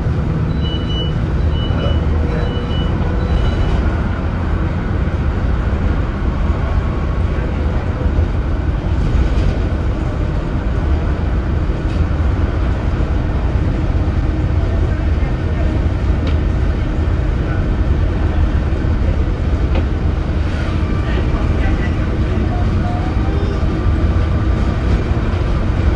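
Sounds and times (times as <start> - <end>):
bus diesel engine rumbling: 0.0 - 25.9.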